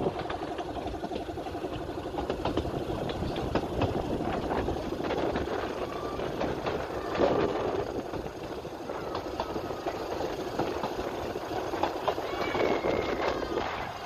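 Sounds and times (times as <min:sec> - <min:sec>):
steam train rumbling on track: 0:00.0 - 0:14.0.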